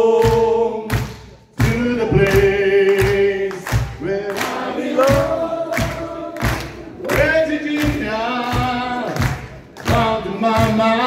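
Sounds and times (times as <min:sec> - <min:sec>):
crowd singing along: 0:00.0 - 0:01.0, 0:01.6 - 0:11.0
man singing: 0:00.0 - 0:06.1, 0:07.0 - 0:11.0.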